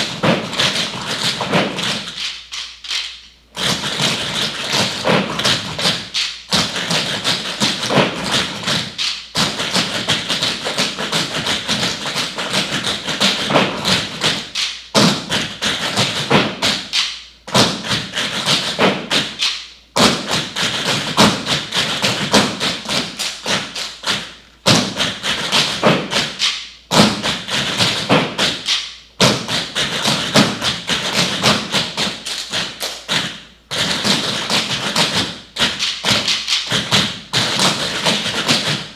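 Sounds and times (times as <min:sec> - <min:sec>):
tap shoes on wooden floor: 0:00.0 - 0:02.3, 0:03.6 - 0:16.9, 0:17.5 - 0:19.4, 0:20.0 - 0:38.9.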